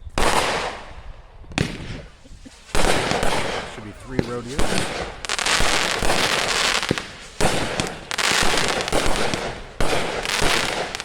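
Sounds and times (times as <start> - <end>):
firework bursts: 0.0 - 11.0
firework hissing crackling tail: 0.0 - 11.0.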